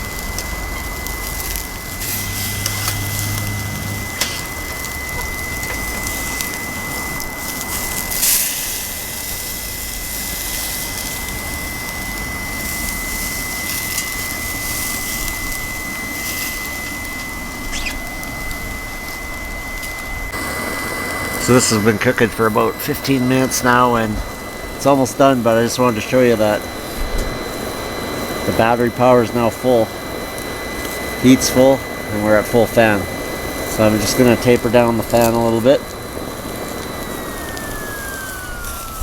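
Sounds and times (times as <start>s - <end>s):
high whine of blower fan: 0.0s - 39.0s
meat sizzling on a grill: 0.0s - 39.0s.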